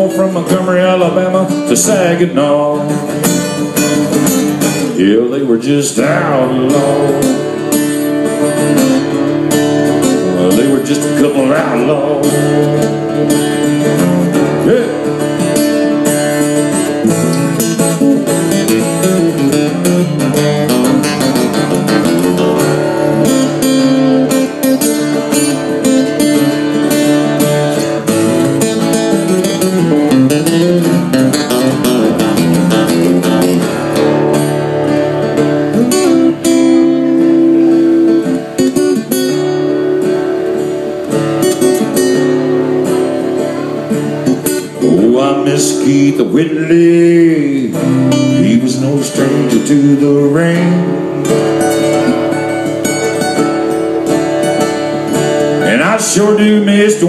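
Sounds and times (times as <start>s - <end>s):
acoustic guitars strumming: 0.0s - 57.0s.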